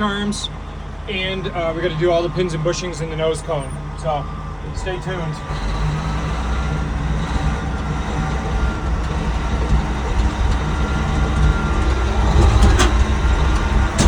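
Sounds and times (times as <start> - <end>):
bulldozer diesel rumble: 0.0 - 14.0.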